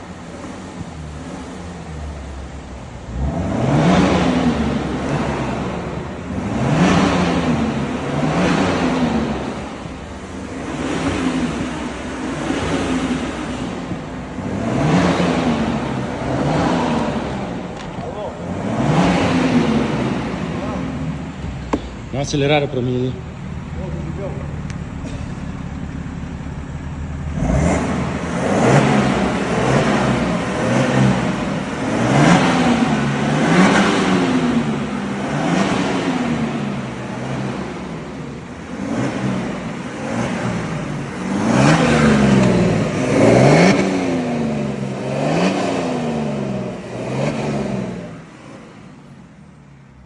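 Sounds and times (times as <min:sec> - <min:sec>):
diesel engine revving: 0:00.0 - 0:50.0.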